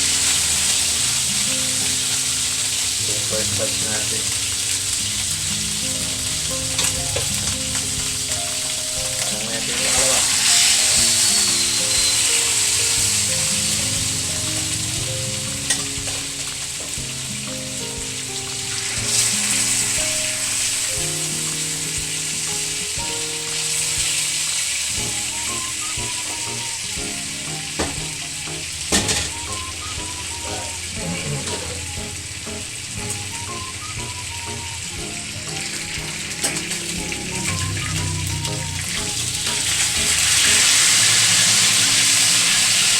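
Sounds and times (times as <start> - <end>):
chicken sizzling in a pan: 0.0 - 42.9
soft background music: 0.0 - 42.9.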